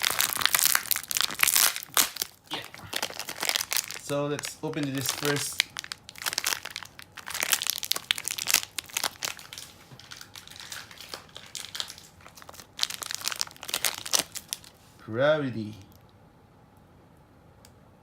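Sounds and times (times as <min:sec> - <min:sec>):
packaging crinkling and tearing: 0:00.0 - 0:14.9.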